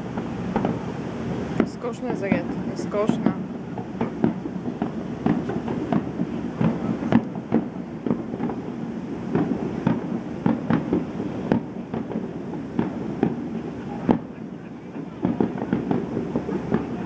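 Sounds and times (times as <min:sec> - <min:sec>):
distant fireworks bangs: 0:00.0 - 0:17.0.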